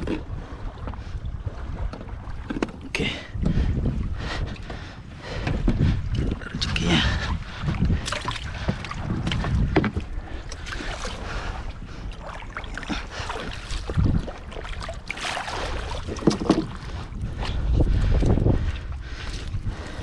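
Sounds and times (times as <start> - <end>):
water splashing and lapping: 0.0 - 20.0
wind buffeting microphone: 0.0 - 20.0.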